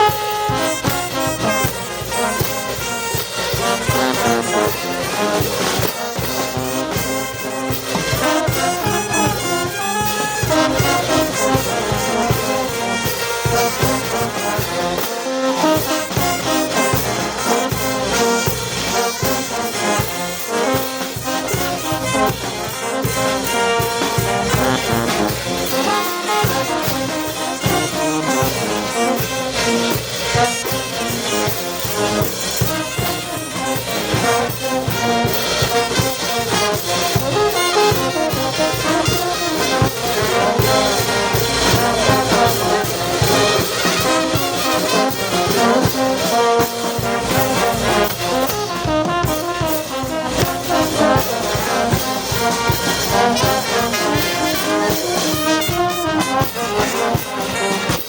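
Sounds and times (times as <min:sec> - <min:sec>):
brass band playing: 0:00.0 - 0:58.0.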